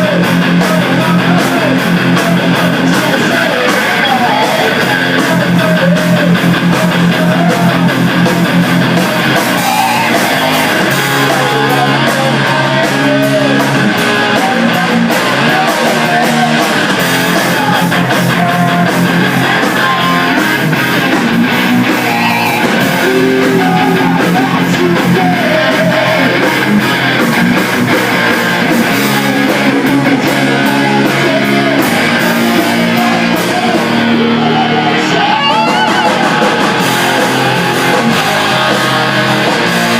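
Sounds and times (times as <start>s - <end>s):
bass guitar: 0.0s - 39.9s
drums: 0.0s - 39.9s
electric guitars: 0.0s - 39.9s.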